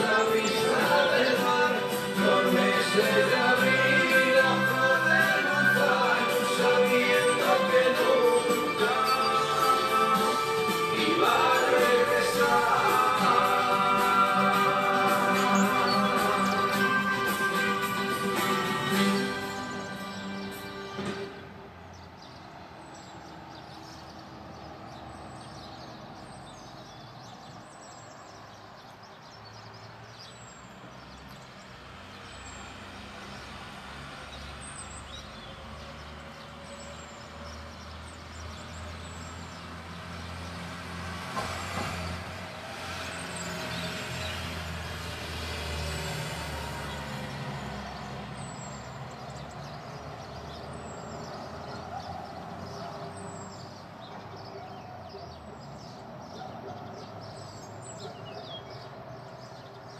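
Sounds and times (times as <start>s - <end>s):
small birds chirping: 0.0s - 40.8s, 41.4s - 59.9s
vehicle engine rumble: 0.0s - 58.2s.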